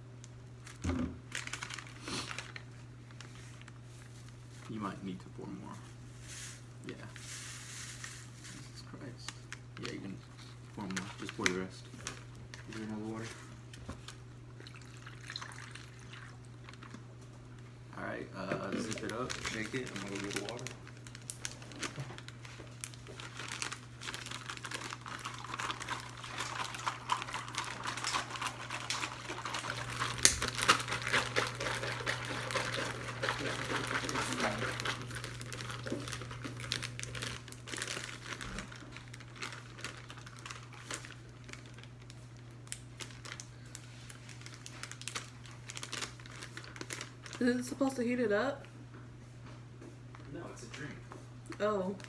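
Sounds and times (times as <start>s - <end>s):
plastic wrappers crinkling: 0.5s - 5.2s, 6.1s - 48.2s, 51.5s - 52.0s.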